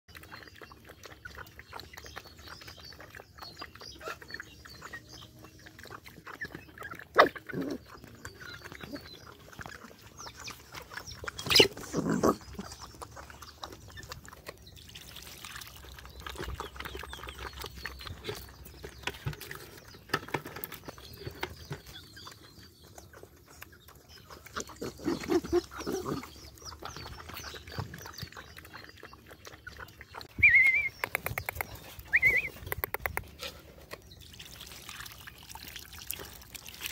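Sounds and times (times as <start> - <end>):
dogs lapping and chewing food: 0.1 - 36.9.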